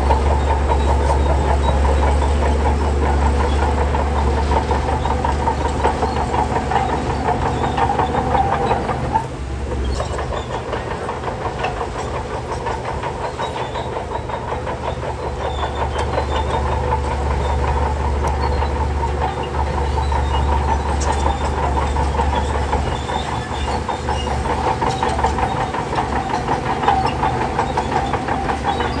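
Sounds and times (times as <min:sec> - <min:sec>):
diesel engine droning: 0:00.0 - 0:29.0
steel tracks clanking: 0:00.0 - 0:29.0.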